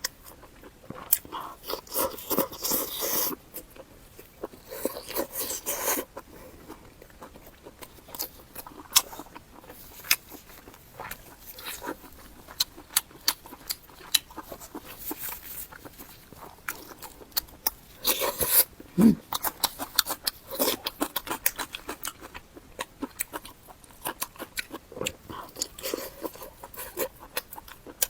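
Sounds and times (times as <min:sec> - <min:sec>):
crunchy chewing: 0:00.0 - 0:28.0.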